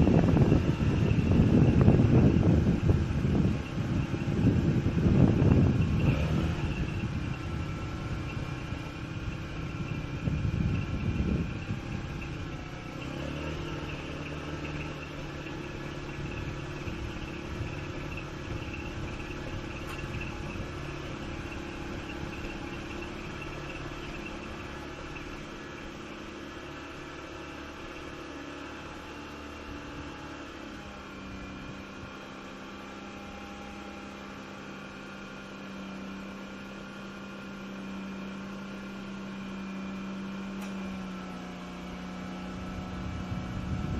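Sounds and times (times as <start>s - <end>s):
rotary engine revving and idling: 0.0s - 43.9s.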